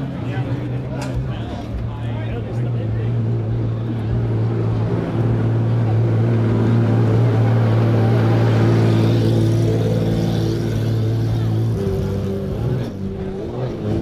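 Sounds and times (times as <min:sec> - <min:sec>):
race car engine droning: 0:00.0 - 0:14.0.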